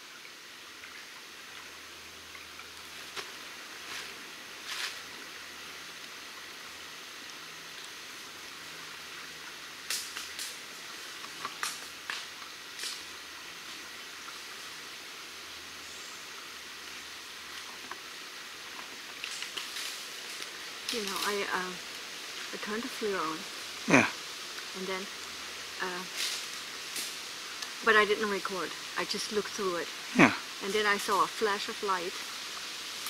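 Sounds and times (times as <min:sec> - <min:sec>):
water flowing gently: 0:00.0 - 0:33.0.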